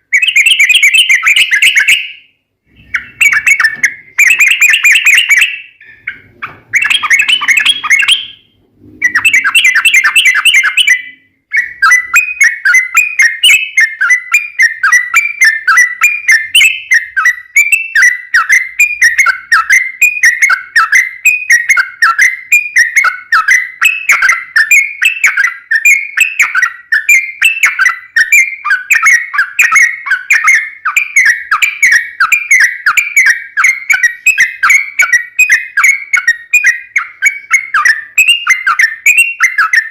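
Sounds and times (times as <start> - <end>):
bird song bubbling chatter: 0.0 - 39.9.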